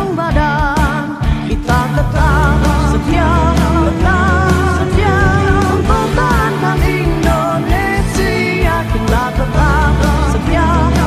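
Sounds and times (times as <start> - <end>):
pop music with singer: 0.0 - 11.0.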